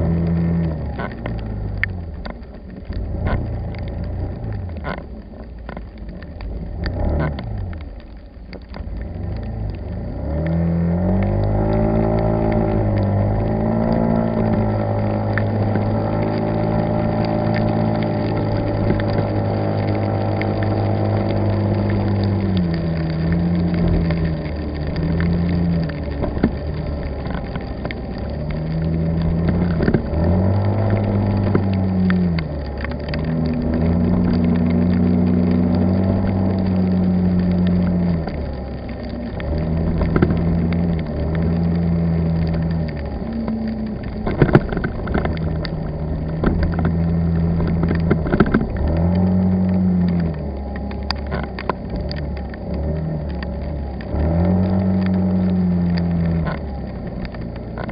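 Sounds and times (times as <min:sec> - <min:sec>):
car engine hum: 0:00.0 - 0:57.9
road noise: 0:00.0 - 0:57.9.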